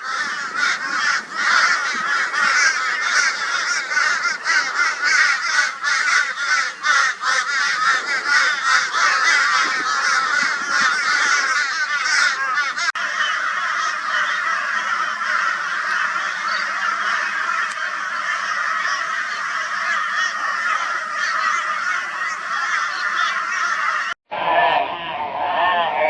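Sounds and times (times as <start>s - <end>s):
crows cawing: 0.0s - 24.2s.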